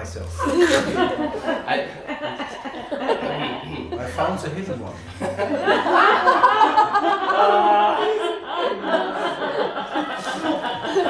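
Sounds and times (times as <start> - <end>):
people laughing: 0.0 - 11.0
voices: 0.0 - 11.0.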